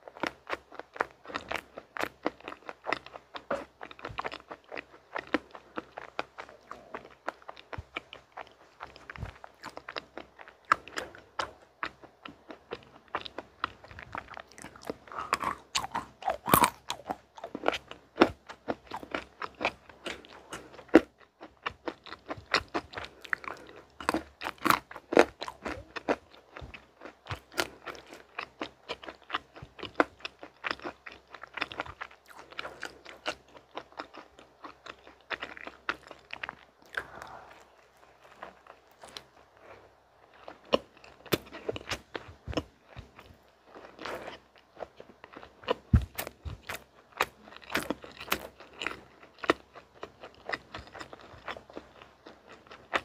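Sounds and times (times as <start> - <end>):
candy crunching: 0.0 - 53.0
wet chewing: 0.0 - 53.0.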